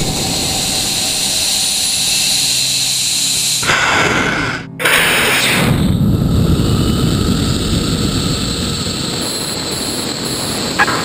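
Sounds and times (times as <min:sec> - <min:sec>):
rocket motor rumble: 0:00.0 - 0:11.0.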